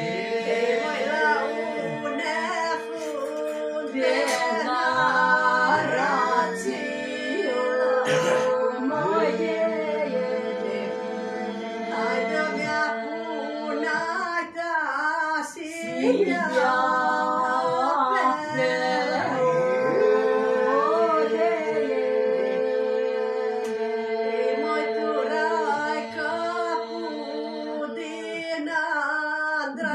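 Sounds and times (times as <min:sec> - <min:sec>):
held vocal drone: 0:00.0 - 0:14.6, 0:15.6 - 0:28.5
group singing a cappella: 0:00.0 - 0:29.9.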